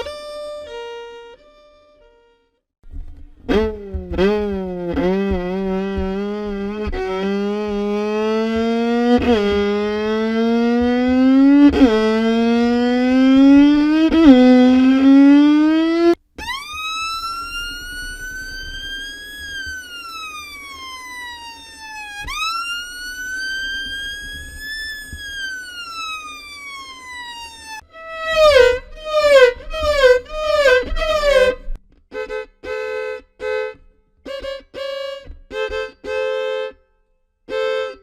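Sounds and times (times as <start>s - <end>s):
violin imitating a siren: 0.0s - 2.0s, 3.5s - 33.7s, 34.3s - 36.8s.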